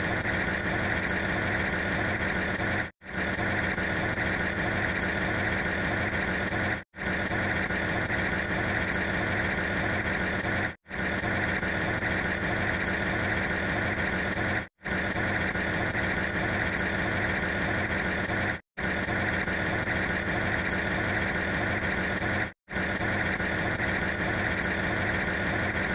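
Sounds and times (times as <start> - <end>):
machine running noise: 0.0 - 25.9.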